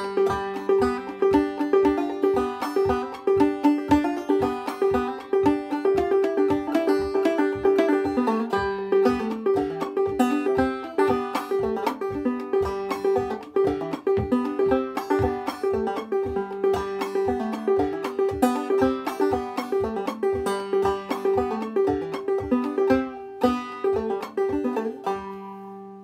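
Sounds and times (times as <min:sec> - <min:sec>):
banjo playing: 0:00.0 - 0:26.0.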